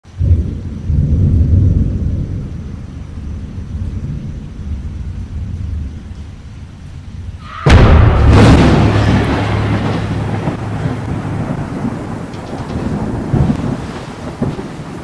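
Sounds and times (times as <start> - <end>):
deep low rumble: 0.1 - 14.6.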